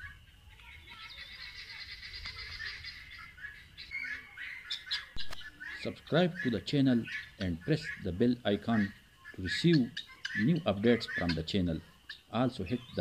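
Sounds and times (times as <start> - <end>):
short partridge calls: 0.0 - 13.0
partridges chattering: 0.6 - 13.0.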